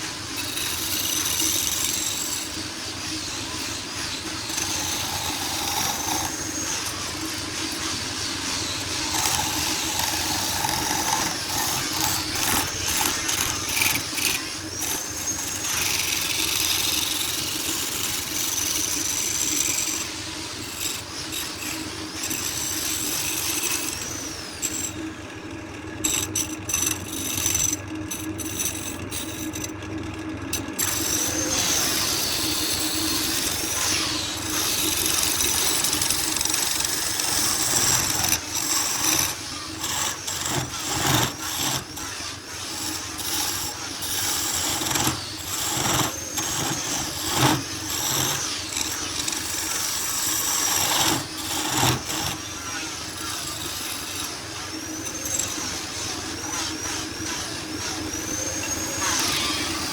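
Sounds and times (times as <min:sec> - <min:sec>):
motor running steadily: 0:00.0 - 0:59.9.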